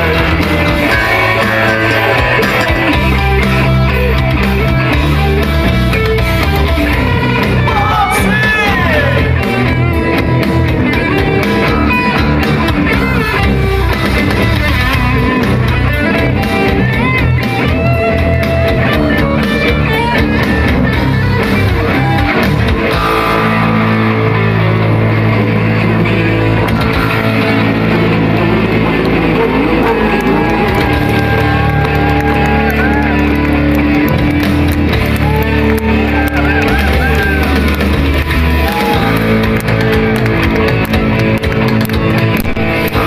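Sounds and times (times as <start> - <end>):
metal band playing live: 0.0 - 43.0.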